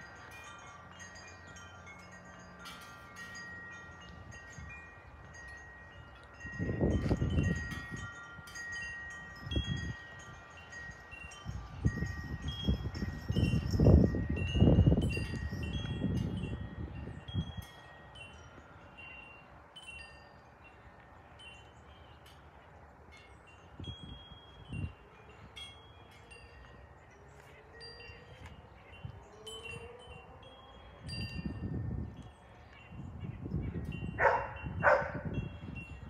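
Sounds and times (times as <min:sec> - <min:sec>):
wind buffeting microphone: 0:00.0 - 0:36.0
wind chimes ringing: 0:00.0 - 0:36.0.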